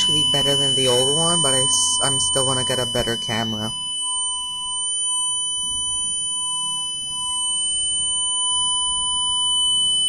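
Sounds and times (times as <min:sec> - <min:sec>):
high-pitched security alarm tone: 0:00.0 - 0:10.0.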